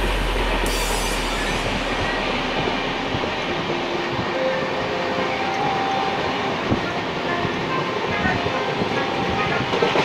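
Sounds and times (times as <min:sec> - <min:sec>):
train coach rumbling and rattling: 0:00.0 - 0:10.0.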